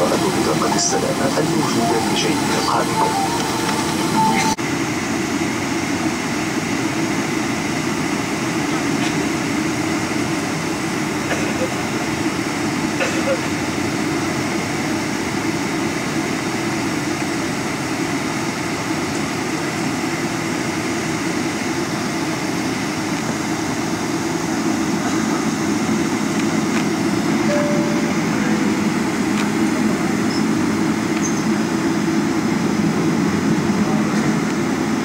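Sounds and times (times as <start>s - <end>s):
aircraft engines running: 0.0s - 35.0s.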